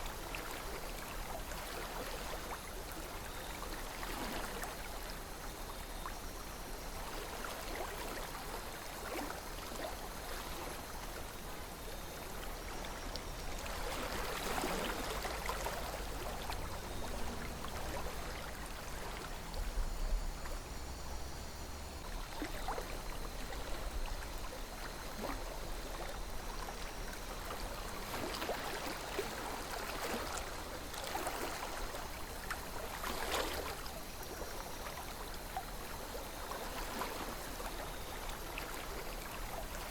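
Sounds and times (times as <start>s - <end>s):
calm river flowing: 0.0s - 39.9s.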